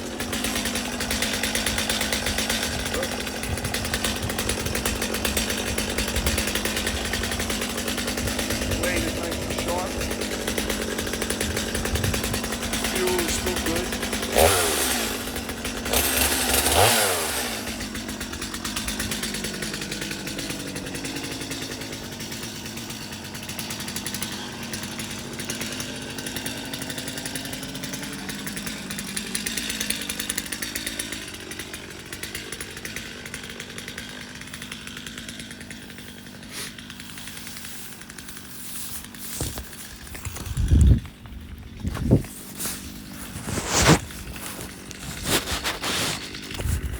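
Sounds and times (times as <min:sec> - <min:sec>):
chainsaw revving and idling: 0:00.0 - 0:46.9.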